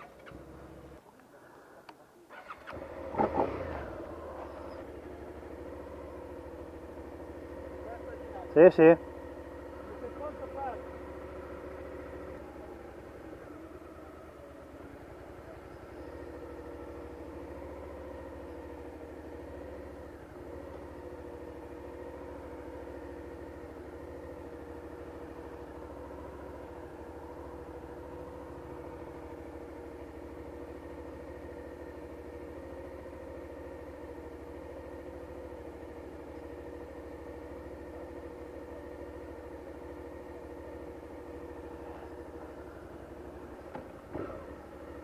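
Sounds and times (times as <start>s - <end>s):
motorcycle engine at low revs: 0.0s - 1.0s, 2.3s - 45.0s.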